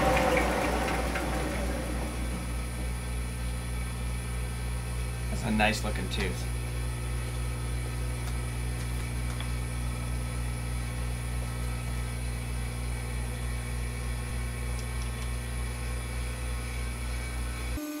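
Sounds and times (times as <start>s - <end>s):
milling machine humming: 0.0s - 18.0s.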